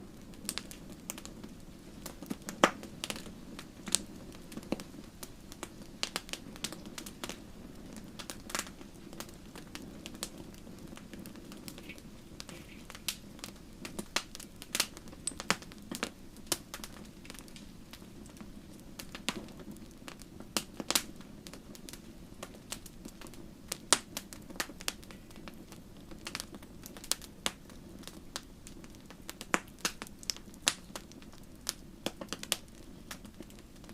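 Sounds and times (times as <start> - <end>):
low hiss of burning: 0.0 - 33.9
wood fire crackling: 0.0 - 33.9.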